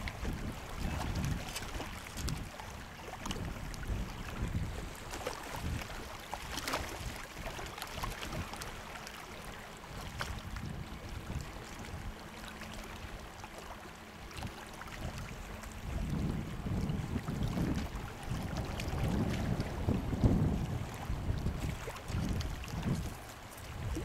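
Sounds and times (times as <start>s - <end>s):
wind buffeting microphone: 0.0s - 8.6s, 9.9s - 12.2s, 14.3s - 24.0s
water lapping against boat hull: 0.0s - 24.0s.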